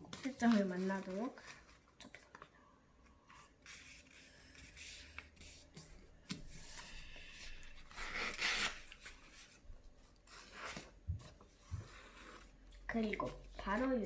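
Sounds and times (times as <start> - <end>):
paper rustling and creasing: 0.0 - 2.5, 3.1 - 14.0.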